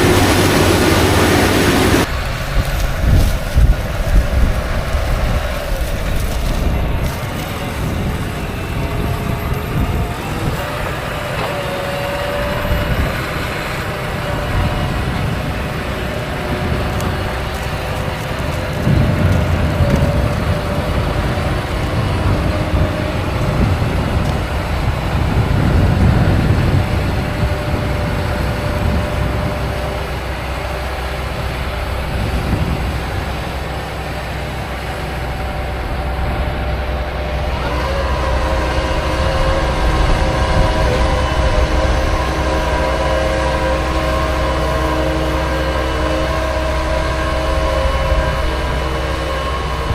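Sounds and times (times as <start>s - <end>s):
tractor and harvester engines: 0.0s - 49.9s.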